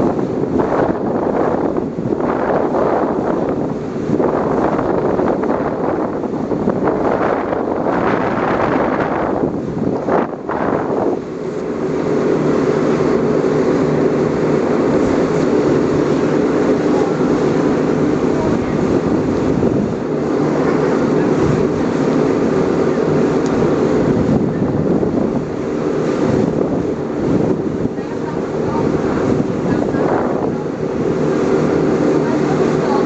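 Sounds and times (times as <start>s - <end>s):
speedboat engines droning: 0.0s - 33.0s
spray and wind rushing: 0.0s - 33.0s.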